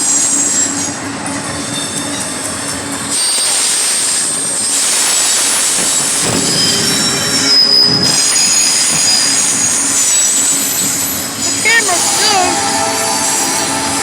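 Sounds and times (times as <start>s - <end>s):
train rushing rumble: 0.0s - 14.0s
train wheels squealing: 0.0s - 14.0s.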